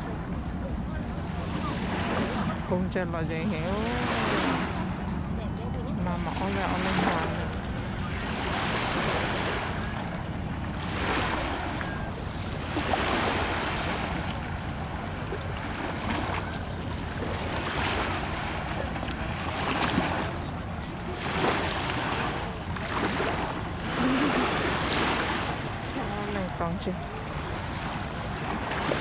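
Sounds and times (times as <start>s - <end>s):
moving water: 0.0s - 29.0s.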